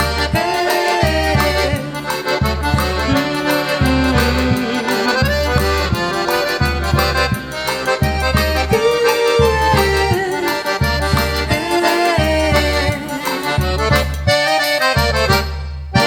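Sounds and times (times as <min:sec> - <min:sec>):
accordion melody: 0:00.0 - 0:16.0
high percussion ticks: 0:00.0 - 0:16.0
pulsing bass line: 0:00.0 - 0:16.0.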